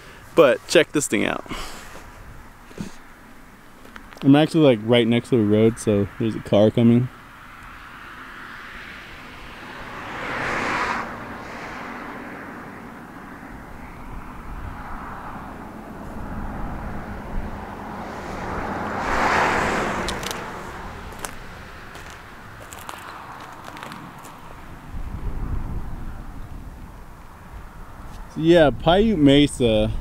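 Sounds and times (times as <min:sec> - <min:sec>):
cars passing on a road: 0:00.0 - 0:30.0.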